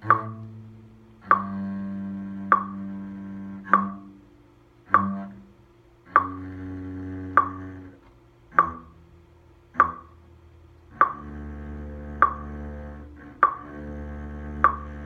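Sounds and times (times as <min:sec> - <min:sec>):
double bass bowed softly: 0:00.0 - 0:15.0
metronome clicking: 0:00.0 - 0:15.0.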